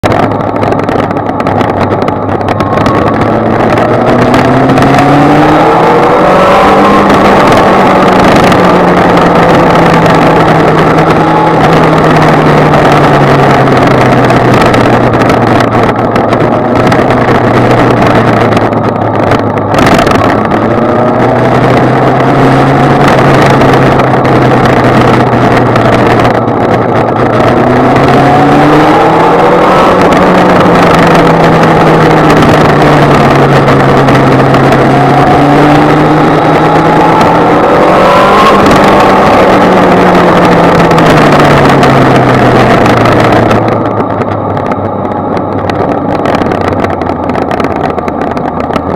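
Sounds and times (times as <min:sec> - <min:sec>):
motorcycle engine accelerating: 0:00.0 - 0:48.9
wind noise: 0:00.0 - 0:48.9.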